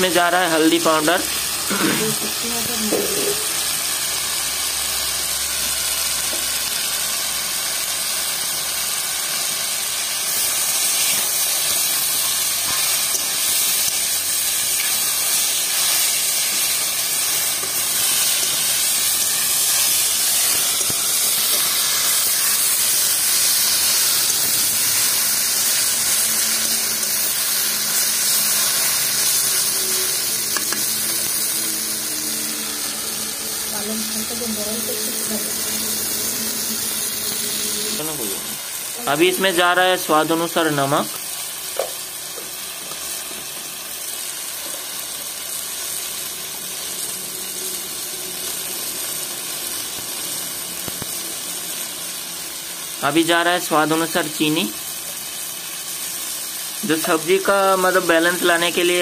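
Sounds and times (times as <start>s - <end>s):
vegetables sizzling in a pan: 0.0s - 59.0s.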